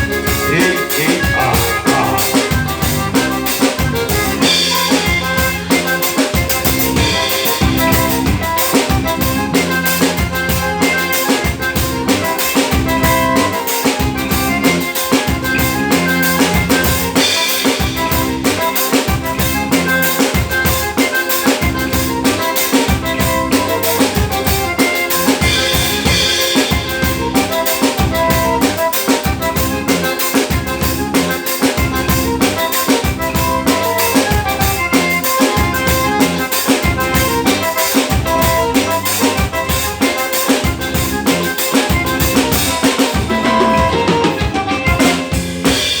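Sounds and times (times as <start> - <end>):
drum kit fast beat: 0.0 - 46.0
held instrument notes: 0.0 - 46.0
live band playing: 0.0 - 46.0.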